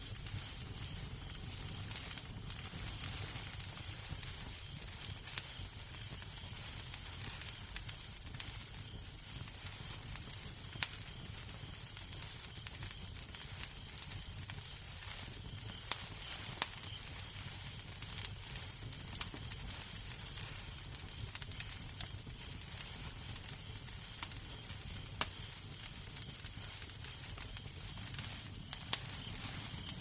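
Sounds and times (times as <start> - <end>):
sharp pops of fire: 0.0 - 30.0
wood fire crackling: 0.0 - 30.0.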